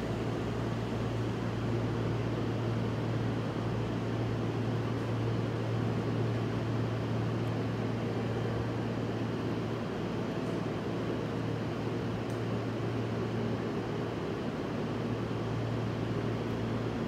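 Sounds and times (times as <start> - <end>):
railway station ambience: 0.0 - 17.0.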